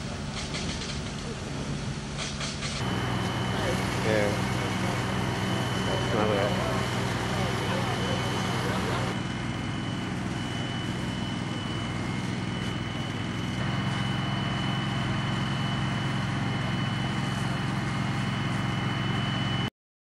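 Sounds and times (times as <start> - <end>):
engine drone: 0.0 - 19.7
thin high tone: 2.8 - 19.7.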